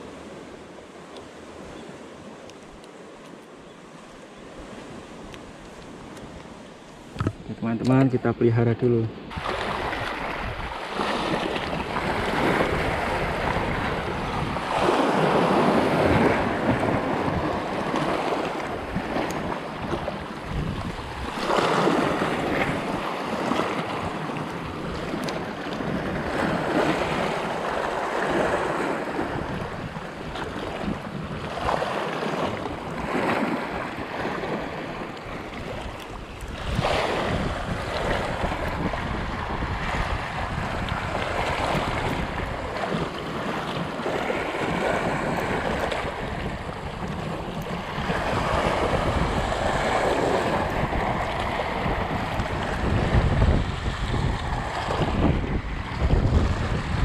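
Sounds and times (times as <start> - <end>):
waves washing over rocks: 3.9 - 57.0
wind buffeting microphone: 4.5 - 57.0.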